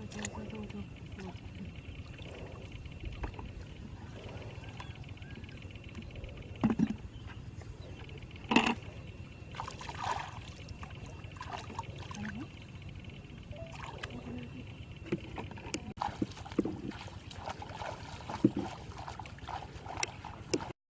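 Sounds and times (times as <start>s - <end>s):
water splashing and sloshing: 0.0s - 20.8s.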